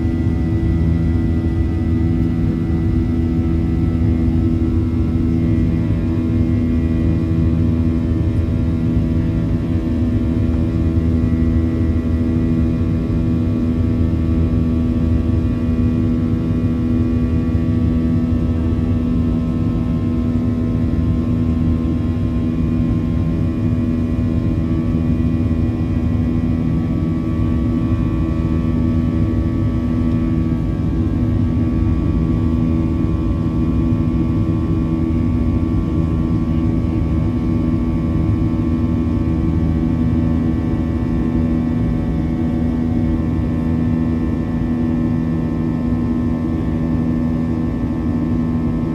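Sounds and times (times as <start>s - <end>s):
jet engine buzzsaw drone: 0.0s - 48.9s.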